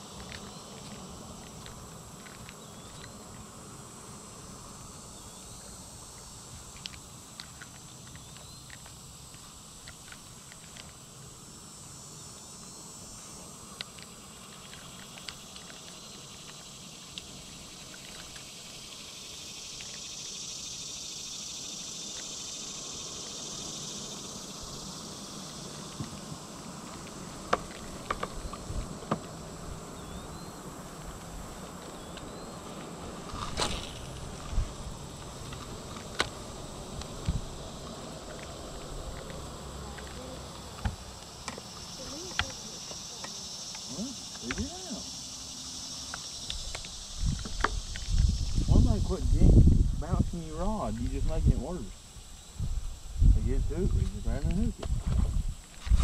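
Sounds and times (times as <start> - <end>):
insects buzzing and chirring: 0.0 - 56.0.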